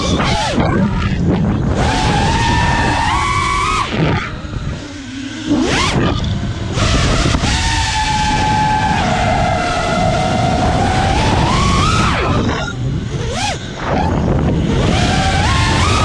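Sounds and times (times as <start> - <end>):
drone motors whining: 0.0 - 16.0
wind rumble on microphone: 0.0 - 16.0.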